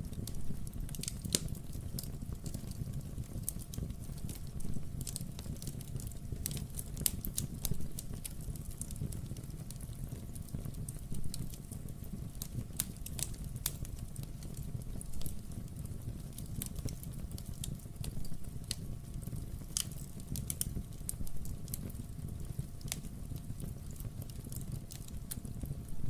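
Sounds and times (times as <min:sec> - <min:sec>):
burning logs rumbling: 0:00.0 - 0:26.0
fire popping and snapping: 0:00.0 - 0:26.0.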